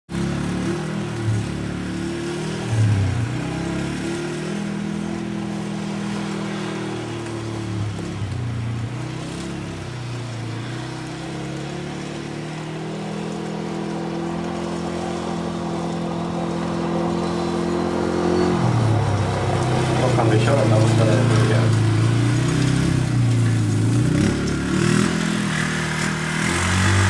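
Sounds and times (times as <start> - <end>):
atv engine revving: 0.1 - 27.0.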